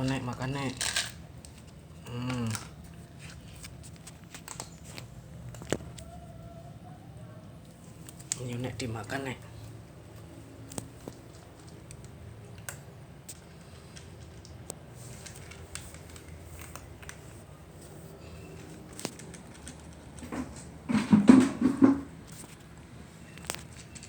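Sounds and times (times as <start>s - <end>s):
cats crunching dry food: 0.0s - 6.1s, 7.6s - 21.1s, 22.3s - 24.0s.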